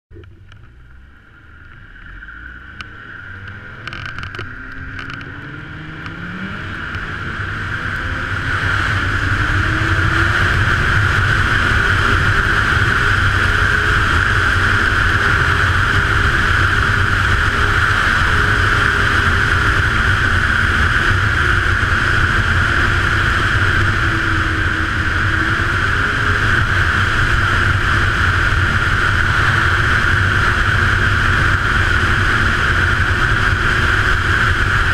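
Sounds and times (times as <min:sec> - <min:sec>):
snowmobile engine accelerating: 0:02.0 - 0:34.9.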